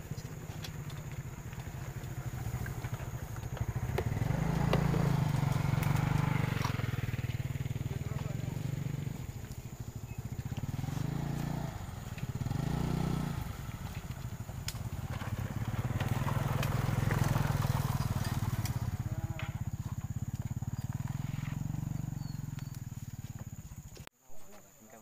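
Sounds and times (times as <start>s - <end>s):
motor scooter engine running: 0.0s - 24.1s.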